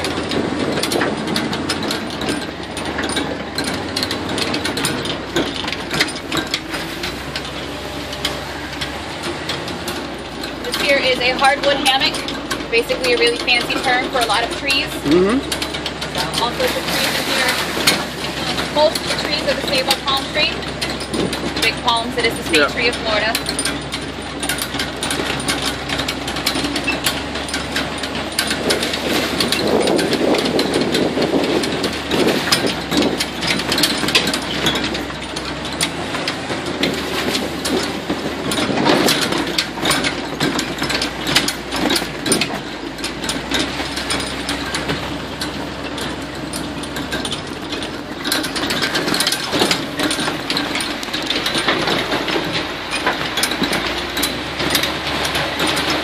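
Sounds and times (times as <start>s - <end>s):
swamp buggy engine: 0.0s - 56.0s
vehicle knocks and rattles: 0.0s - 56.0s.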